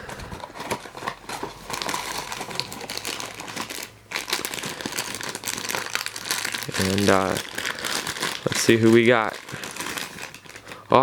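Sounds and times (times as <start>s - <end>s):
packaging crinkling and crackling: 0.0s - 11.0s.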